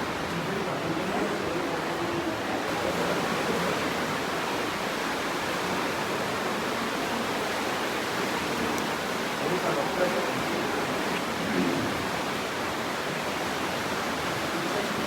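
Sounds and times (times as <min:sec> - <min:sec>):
fast-flowing river water: 0:00.0 - 0:15.0.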